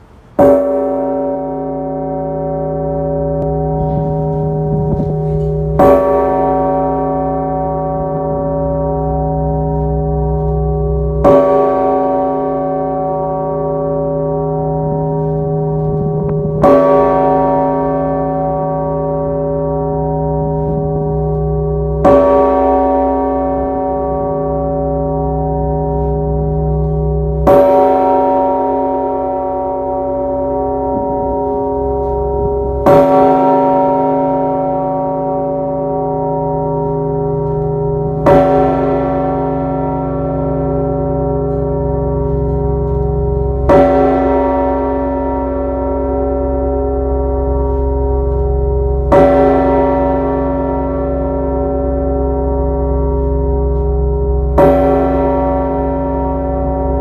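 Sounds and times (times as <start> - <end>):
large bell ringing: 0.0 - 57.0.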